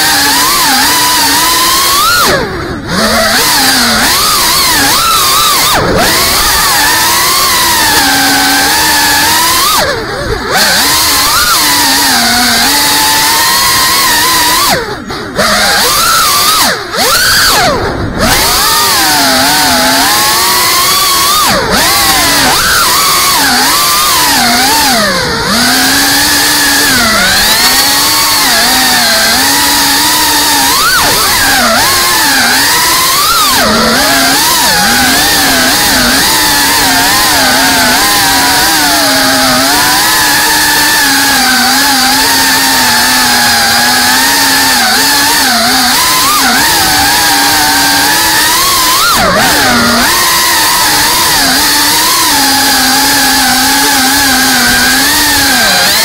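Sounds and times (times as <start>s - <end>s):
drone propellers whining: 0.0s - 56.0s.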